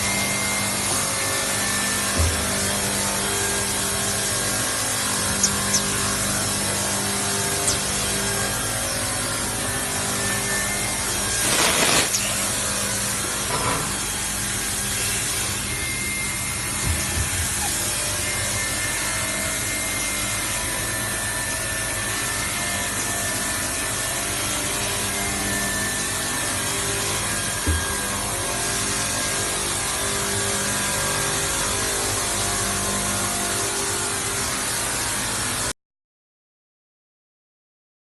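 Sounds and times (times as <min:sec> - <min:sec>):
machinery hum and whir: 0:00.0 - 0:35.7.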